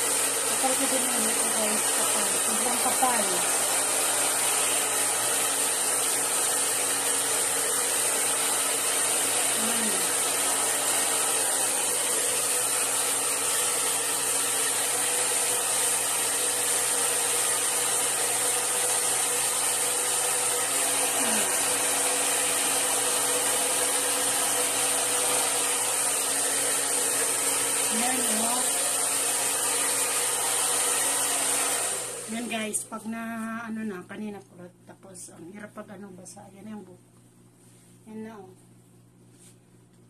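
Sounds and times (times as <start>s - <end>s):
hair dryer running: 0.0s - 32.9s.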